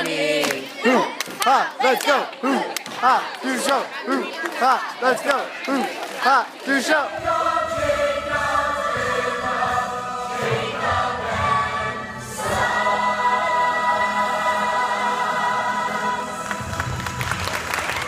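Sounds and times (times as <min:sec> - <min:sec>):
chorus singing: 0:00.0 - 0:18.0.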